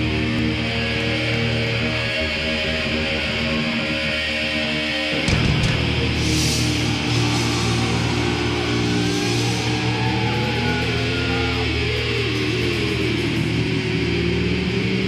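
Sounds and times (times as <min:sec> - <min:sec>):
metal band playing live: 0:00.0 - 0:15.0.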